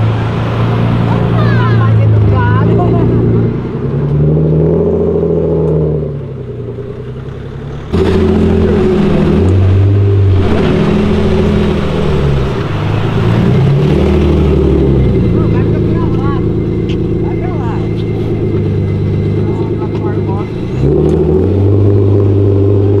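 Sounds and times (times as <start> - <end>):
car engine revving and accelerating: 0.0 - 23.0.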